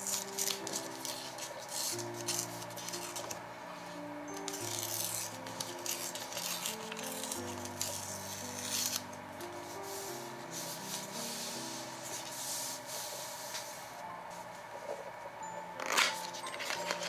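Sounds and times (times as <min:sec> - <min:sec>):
hand rubbing paper: 0:00.0 - 0:15.1
soft background music: 0:00.0 - 0:17.0.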